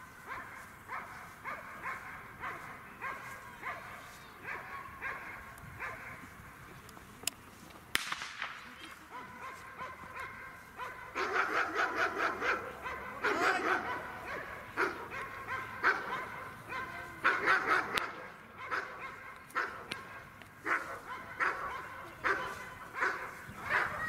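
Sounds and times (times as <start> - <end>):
dog barking: 0.3 - 6.2, 9.1 - 24.0.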